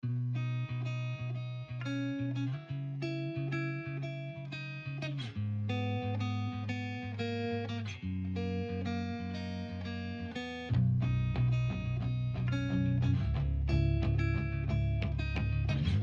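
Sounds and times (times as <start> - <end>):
plucked guitar music with bass: 0.0 - 16.0.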